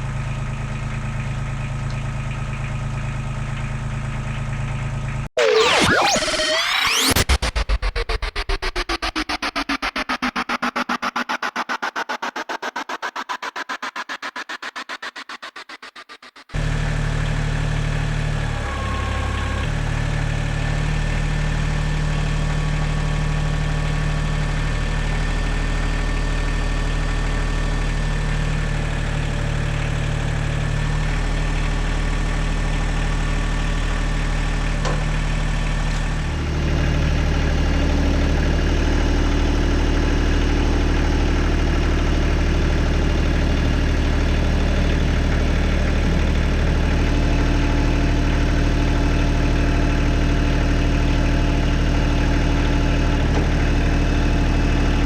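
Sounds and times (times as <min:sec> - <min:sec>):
heavy equipment engine running: 0:00.1 - 0:55.0.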